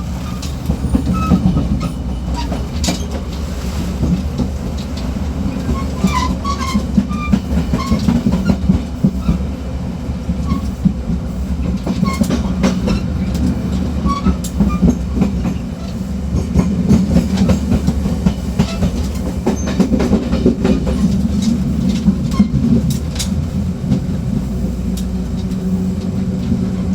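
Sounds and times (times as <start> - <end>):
train engine and running gear rumble: 0.0 - 26.9.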